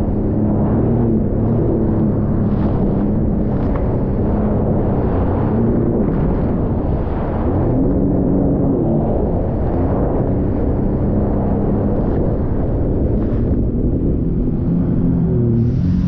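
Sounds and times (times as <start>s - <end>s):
personal watercraft engine running: 0.0s - 16.0s
water rushing along hull: 0.0s - 16.0s
wind buffeting on microphone: 0.0s - 16.0s.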